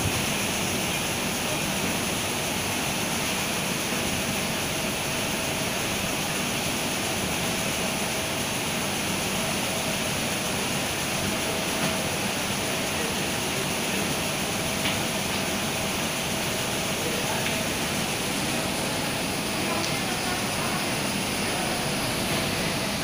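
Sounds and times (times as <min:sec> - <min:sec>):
machinery rushing hum: 0:00.0 - 0:23.0.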